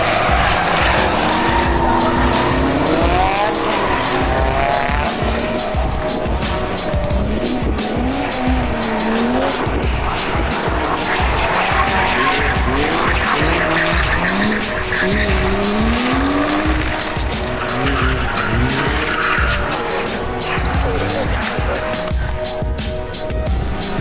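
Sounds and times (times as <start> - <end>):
tyres squealing: 0.0 - 22.4
music with steady beat: 0.0 - 24.0
truck engine revving: 0.0 - 24.0.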